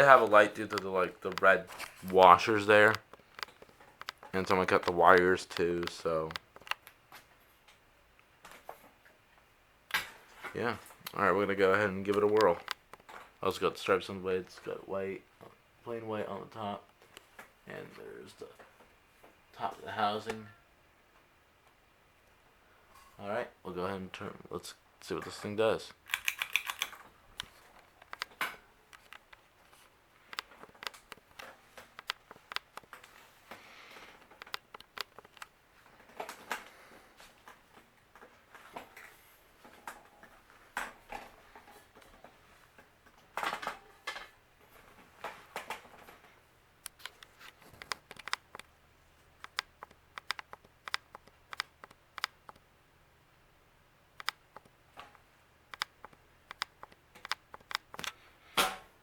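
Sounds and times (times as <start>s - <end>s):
ceiling fan clicking and ticking: 0.0s - 9.2s, 9.9s - 15.2s, 23.4s - 52.7s, 54.1s - 58.8s.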